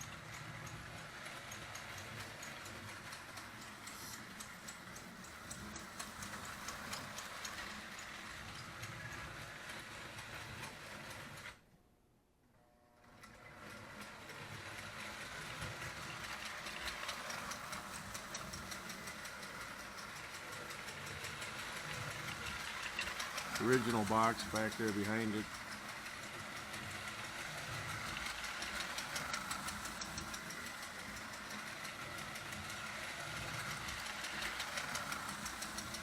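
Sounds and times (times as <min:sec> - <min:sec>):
rapid even clicking: 0:00.0 - 0:11.5, 0:14.0 - 0:36.0
toy train motor hum: 0:00.0 - 0:11.6, 0:12.6 - 0:36.0.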